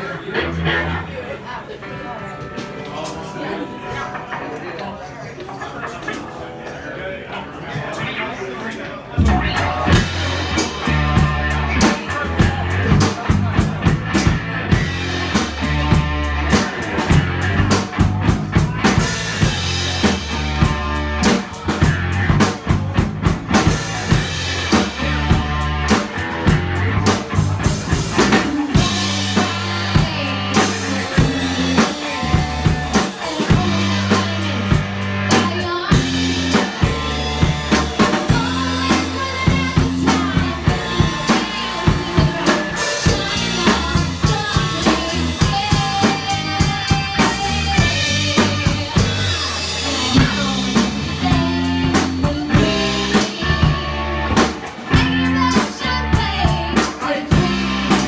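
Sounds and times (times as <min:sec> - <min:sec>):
live rock band playing: 0:00.0 - 0:06.5, 0:09.2 - 0:58.0
drums driving a steady beat: 0:02.4 - 0:03.4, 0:09.2 - 0:58.0.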